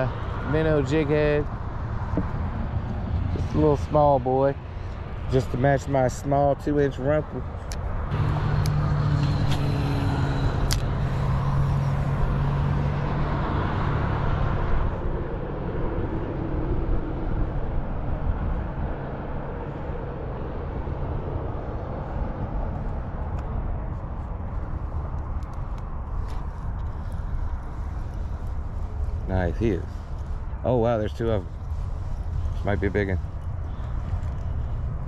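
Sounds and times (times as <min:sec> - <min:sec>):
vehicle engine hum and tyre noise: 0:00.0 - 0:35.0.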